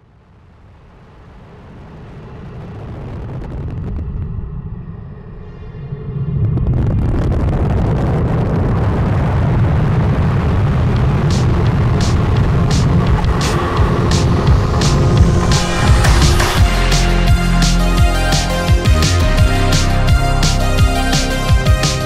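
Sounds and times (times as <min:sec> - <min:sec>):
rushing rumbling air noise: 0:00.6 - 0:22.0.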